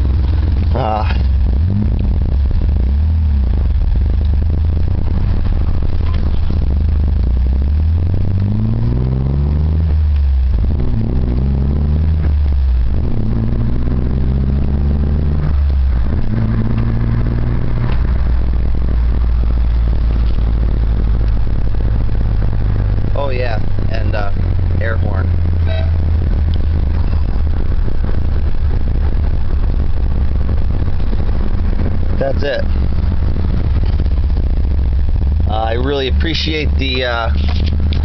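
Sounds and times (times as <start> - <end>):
car exhaust drone: 0.0 - 38.0.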